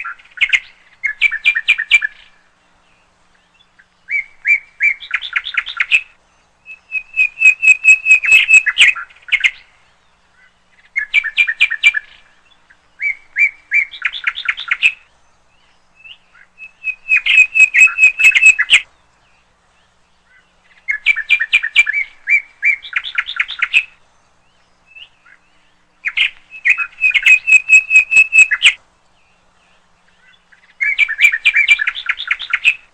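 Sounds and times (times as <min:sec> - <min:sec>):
songbird chirping: 0:00.0 - 0:32.9.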